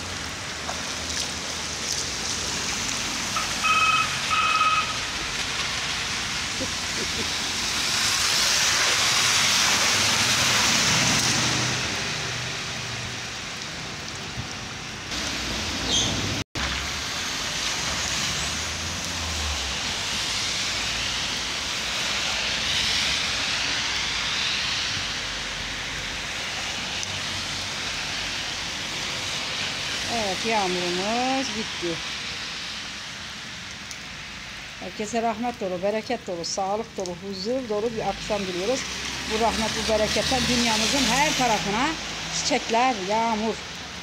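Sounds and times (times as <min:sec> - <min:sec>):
heavy rain on wet asphalt: 0:00.0 - 0:44.0.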